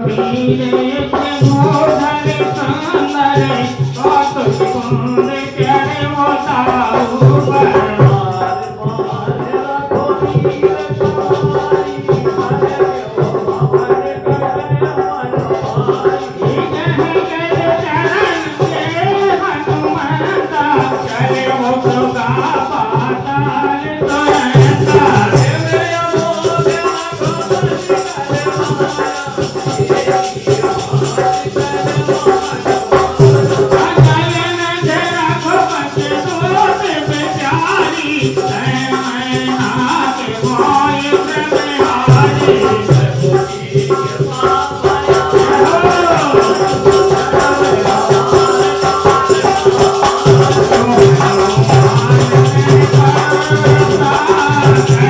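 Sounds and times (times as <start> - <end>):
dholak drum beating: 0.0 - 55.0
jingling hand percussion: 0.0 - 55.0.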